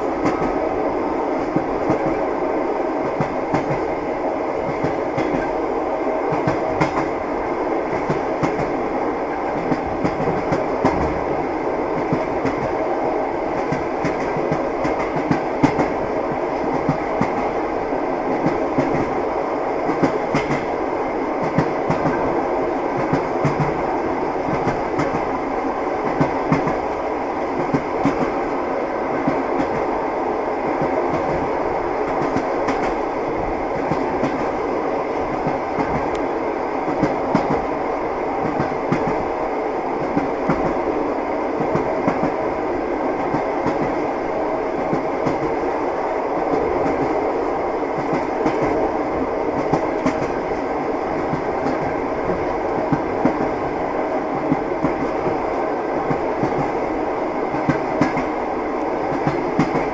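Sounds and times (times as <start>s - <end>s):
train wheels clickety-clack: 0.0s - 39.4s, 40.0s - 59.9s
train rumble: 0.0s - 59.9s.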